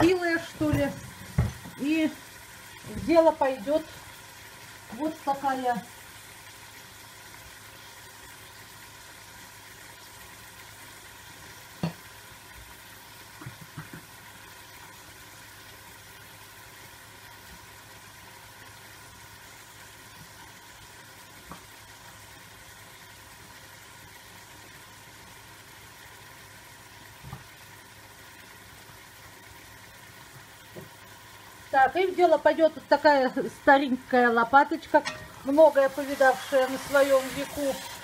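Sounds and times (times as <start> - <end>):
meat sizzling in fat: 0.0 - 38.0.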